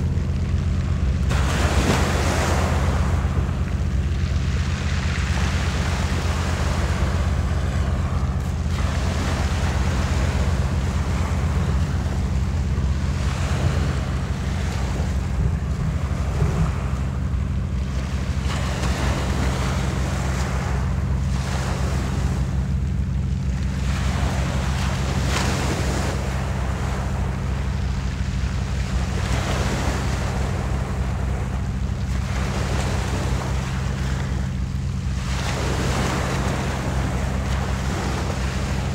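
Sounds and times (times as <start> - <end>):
waves washing on shingle beach: 0.0 - 38.9
wind rumble on microphone: 0.0 - 38.9.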